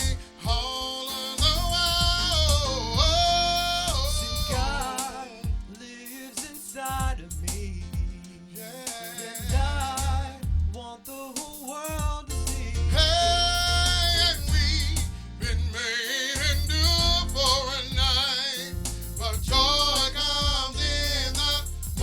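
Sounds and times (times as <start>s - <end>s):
band with steady bass line: 0.0s - 5.8s, 6.5s - 8.2s, 9.0s - 22.0s
person singing gospel: 0.0s - 22.0s.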